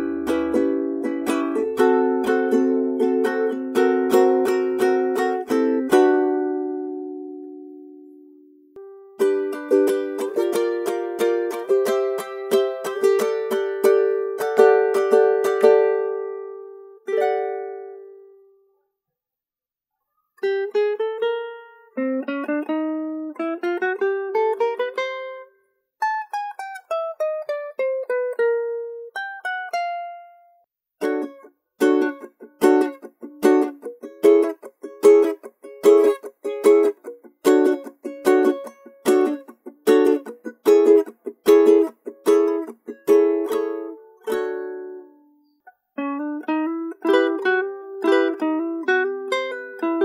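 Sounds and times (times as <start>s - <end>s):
ukulele plucked notes: 0.0s - 18.6s, 20.4s - 50.0s
ukulele strummed chords: 0.0s - 18.6s, 20.4s - 50.0s.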